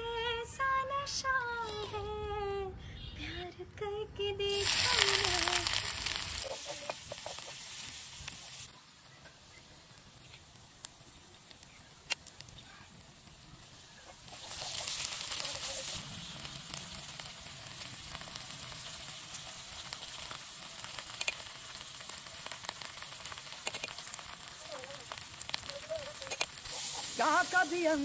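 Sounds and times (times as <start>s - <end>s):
onions sizzling in a wok: 1.6s - 2.0s, 4.4s - 28.0s.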